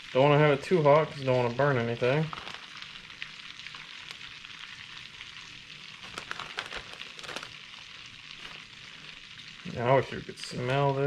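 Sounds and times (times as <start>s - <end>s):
butter sizzling in a frying pan: 0.0s - 11.0s
sharp frying pops: 0.7s - 11.0s.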